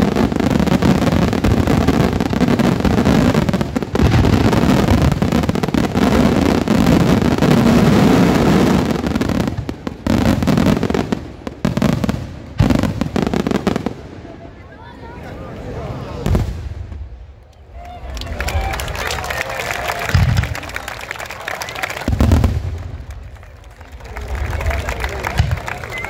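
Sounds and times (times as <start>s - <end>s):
fireworks bursting: 0.0s - 14.4s, 16.2s - 17.2s, 18.4s - 26.0s.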